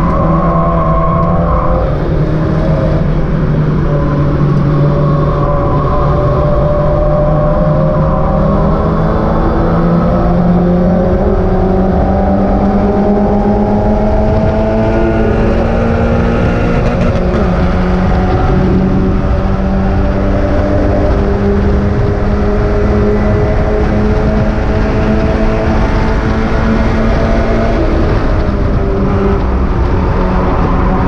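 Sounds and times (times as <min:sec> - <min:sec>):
race car engine running hard: 0:00.0 - 0:31.0
road and wind noise: 0:00.0 - 0:31.0.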